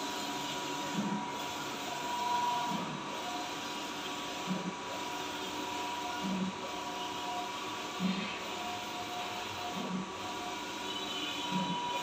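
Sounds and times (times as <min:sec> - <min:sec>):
printer carriage whine: 0:00.0 - 0:12.0.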